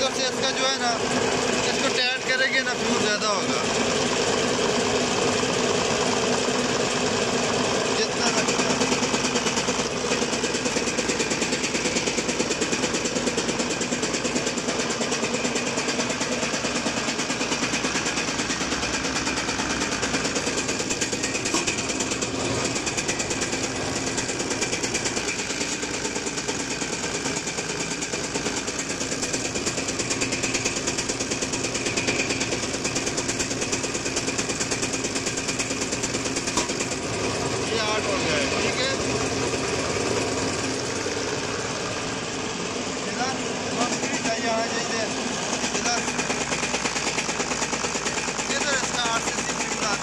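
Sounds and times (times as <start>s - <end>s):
injection pump mechanical chatter: 0.0s - 50.0s.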